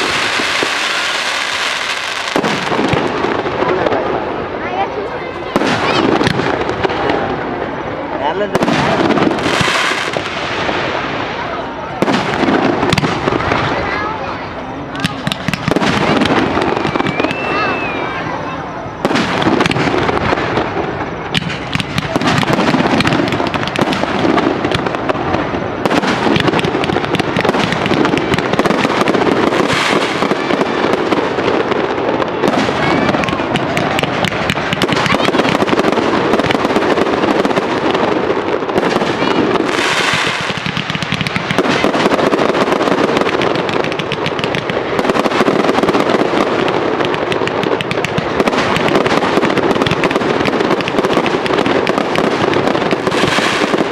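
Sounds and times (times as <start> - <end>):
fireworks crackling and popping: 0.0 - 53.9.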